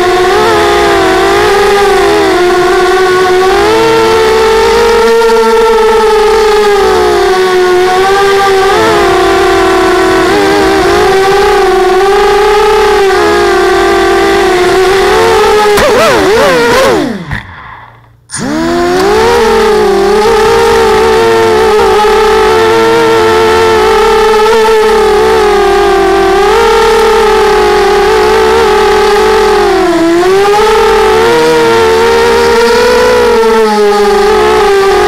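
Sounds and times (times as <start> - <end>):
model aircraft motors whining: 0.0 - 17.5, 18.3 - 35.0.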